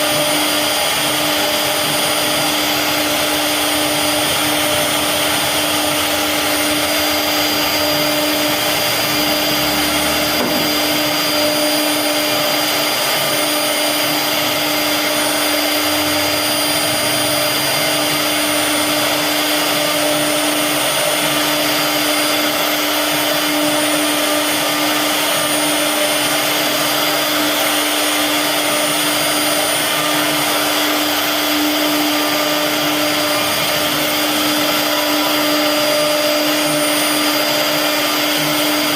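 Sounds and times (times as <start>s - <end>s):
router spindle whining: 0.0s - 38.9s
rushing noise of cutting wood: 0.0s - 38.9s.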